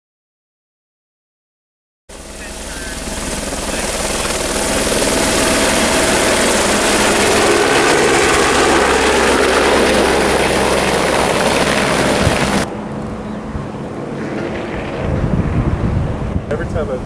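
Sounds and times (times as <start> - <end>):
helicopter rotor and engine: 2.1 - 17.0.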